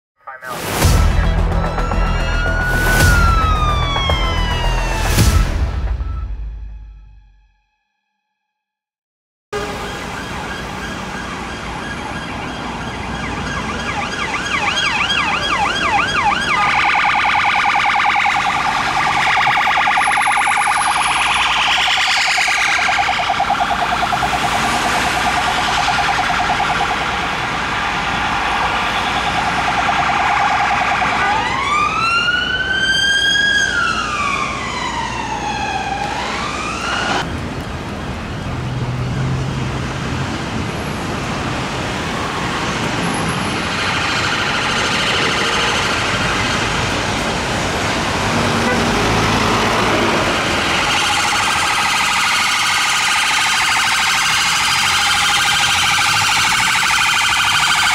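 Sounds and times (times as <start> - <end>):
city traffic: 0.2 - 6.3, 9.5 - 57.9
police siren: 0.6 - 6.6, 9.6 - 37.4, 41.6 - 57.9.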